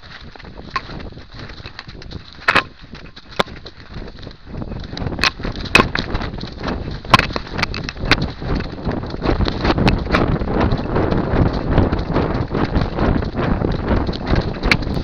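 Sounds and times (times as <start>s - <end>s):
rustling through undergrowth: 0.0s - 15.0s.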